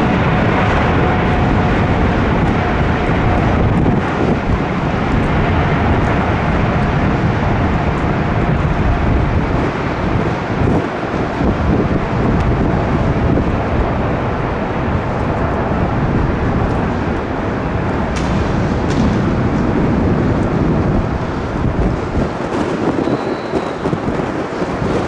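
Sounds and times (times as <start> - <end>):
jet engines rumbling: 0.0 - 25.0
wind buffeting microphone: 0.0 - 25.0.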